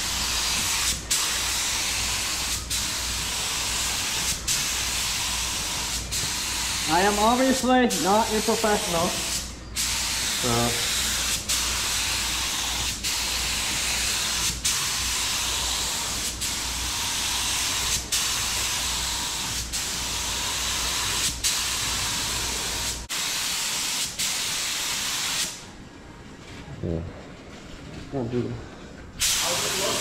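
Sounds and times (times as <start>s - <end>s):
paint spray gun hissing: 0.0s - 7.4s, 8.0s - 25.6s, 29.2s - 30.0s.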